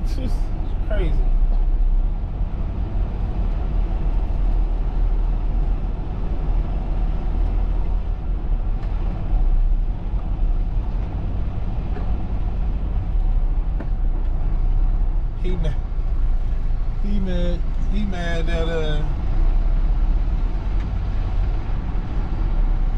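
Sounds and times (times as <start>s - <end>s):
truck diesel engine droning: 0.0s - 22.9s.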